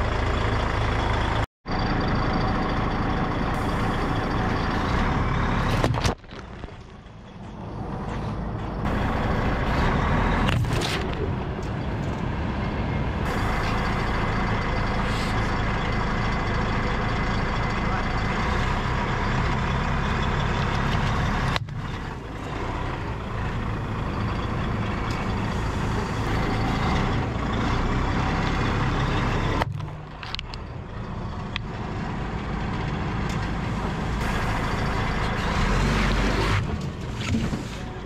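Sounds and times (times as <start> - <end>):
heavy truck engine running: 0.0 - 38.0.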